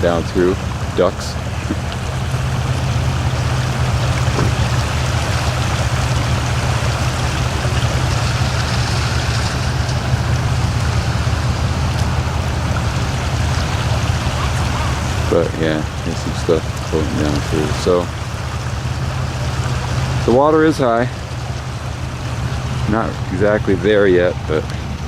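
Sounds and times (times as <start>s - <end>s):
low hum: 0.0s - 25.0s
river rushing: 0.0s - 25.0s.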